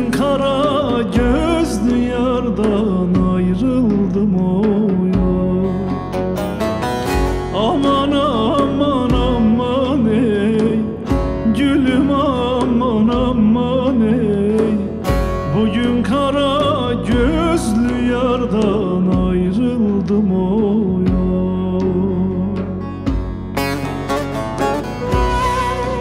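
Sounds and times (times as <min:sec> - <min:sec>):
man singing: 0:00.0 - 0:06.8, 0:07.4 - 0:23.1, 0:23.8 - 0:26.0
deep drum beat: 0:00.0 - 0:26.0
strummed long-necked lute: 0:00.0 - 0:26.0.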